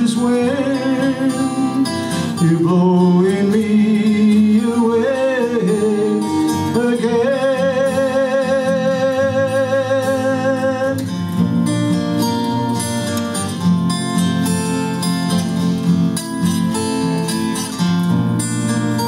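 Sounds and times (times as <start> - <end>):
strummed acoustic guitars: 0.0 - 19.0.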